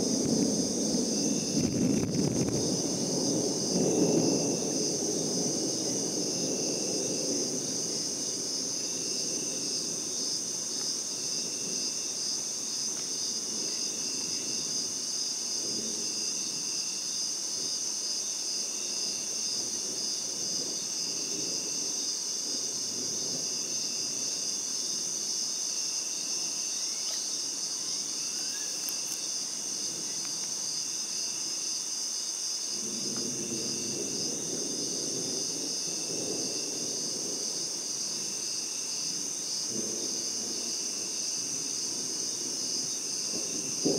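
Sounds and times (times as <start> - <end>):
night insects chirring: 0.0 - 43.9.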